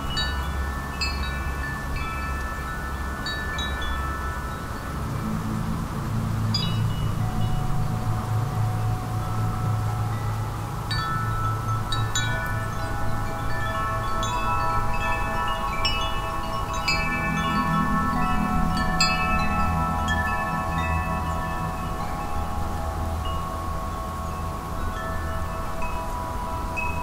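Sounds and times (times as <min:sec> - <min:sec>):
wind chimes ringing: 0:00.0 - 0:27.0.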